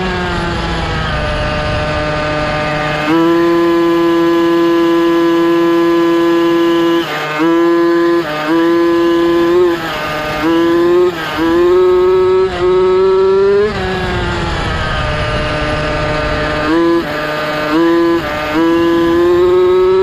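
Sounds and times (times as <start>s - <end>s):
small two-stroke engine revving: 0.0s - 20.0s.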